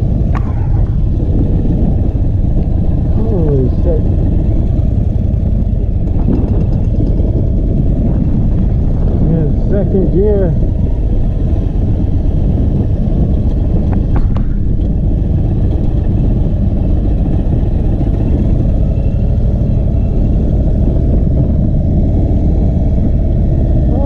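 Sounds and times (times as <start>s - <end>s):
motorcycle engine rumbling: 0.0s - 24.0s.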